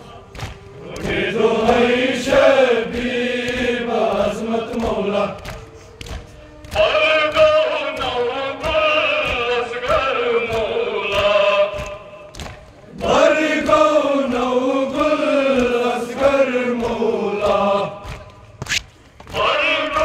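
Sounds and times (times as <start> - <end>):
men chanting together: 0.0 - 5.6, 6.7 - 12.3, 12.9 - 18.4, 19.3 - 20.0
chest-beating slaps: 0.0 - 19.6.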